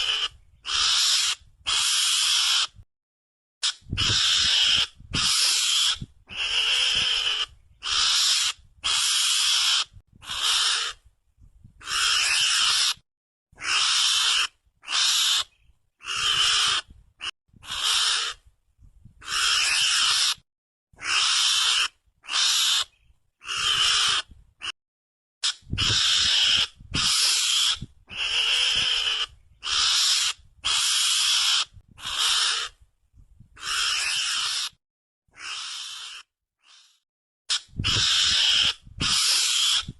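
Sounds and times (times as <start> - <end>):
mongoose harsh cries: 0.0 - 2.8, 3.6 - 11.0, 11.8 - 13.0, 13.6 - 18.4, 19.2 - 20.4, 21.0 - 24.3, 25.4 - 32.8, 33.6 - 39.9.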